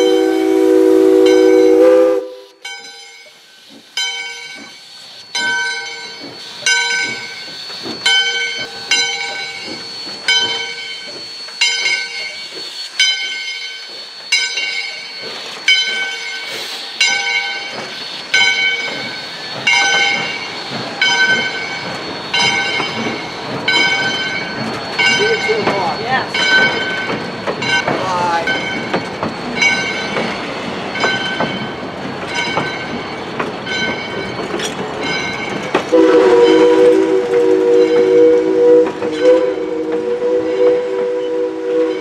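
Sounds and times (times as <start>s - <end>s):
steam hissing: 0.0s - 42.0s
steam locomotive bell ringing: 0.0s - 42.0s
train coaches rumbling: 0.0s - 42.0s.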